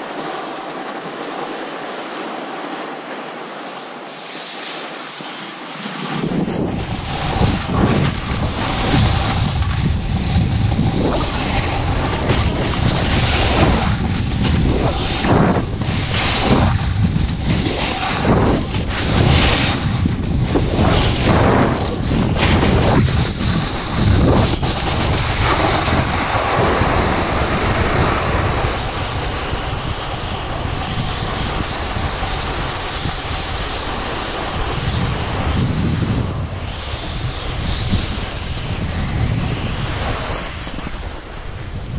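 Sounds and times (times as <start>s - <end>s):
skis scraping across snow: 0.0s - 41.9s
wind rushing over microphone: 0.0s - 41.9s.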